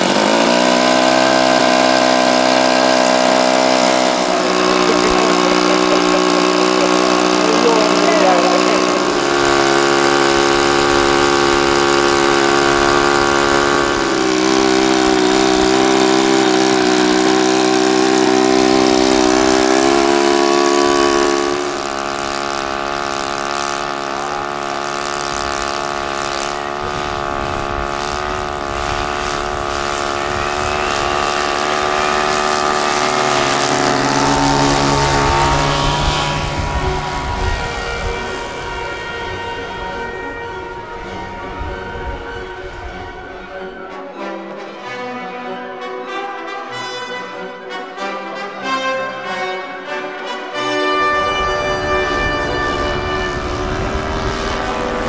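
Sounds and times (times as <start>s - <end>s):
loudspeaker droning held tones: 0.0s - 44.0s, 50.9s - 55.0s.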